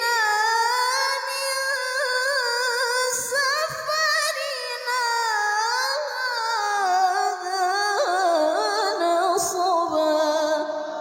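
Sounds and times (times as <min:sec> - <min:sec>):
woman reciting melismatic chant: 0:00.0 - 0:11.0.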